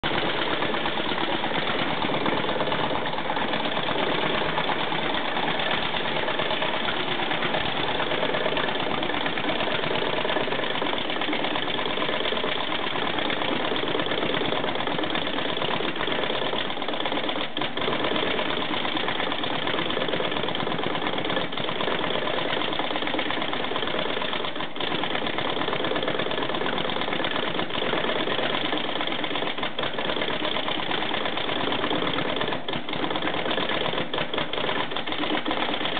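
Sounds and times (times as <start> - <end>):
machine running steadily: 0.0 - 35.9.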